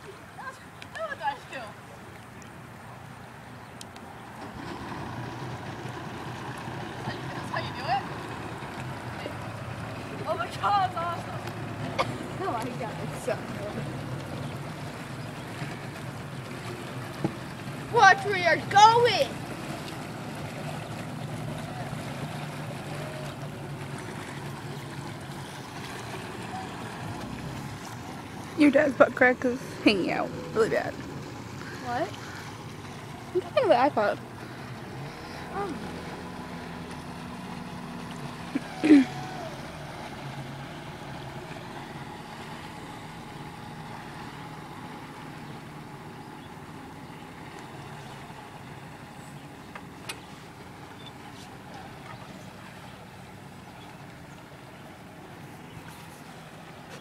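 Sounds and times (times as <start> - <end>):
jet ski engine humming: 0.0 - 57.0
rushing water: 0.0 - 57.0.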